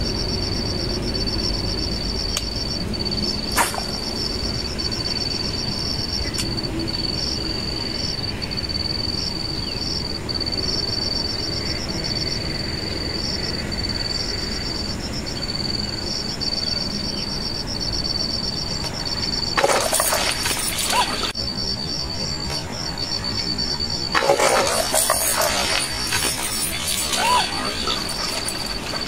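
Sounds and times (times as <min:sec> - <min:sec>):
insects trilling: 0:00.0 - 0:29.0
low rushing background noise: 0:00.0 - 0:29.0.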